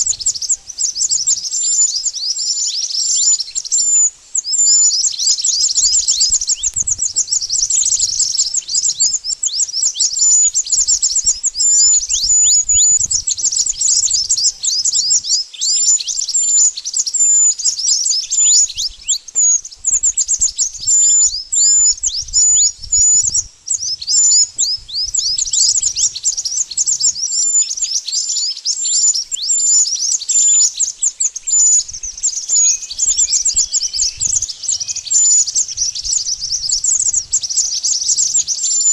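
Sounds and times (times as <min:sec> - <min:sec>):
rapid high-pitched bird chirps: 0:00.0 - 0:38.9.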